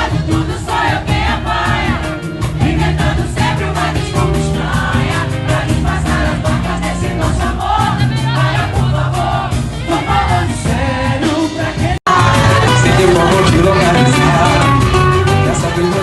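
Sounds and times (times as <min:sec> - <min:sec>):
samba band playing: 0:00.0 - 0:16.0
several voices singing: 0:00.0 - 0:16.0.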